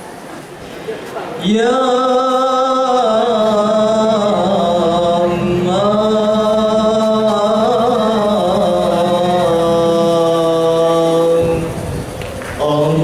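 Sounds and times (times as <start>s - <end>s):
male voices singing a cappella: 1.4s - 11.8s, 12.6s - 13.0s.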